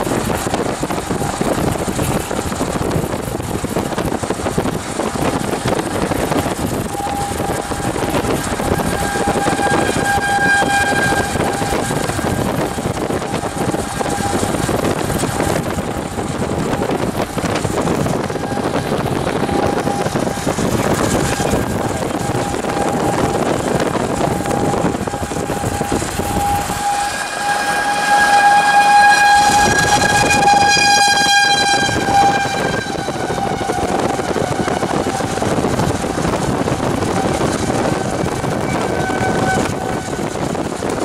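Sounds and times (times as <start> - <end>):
vehicle noise: 0.0 - 41.0
warning siren steady tone: 0.0 - 41.0
wind noise: 0.0 - 41.0.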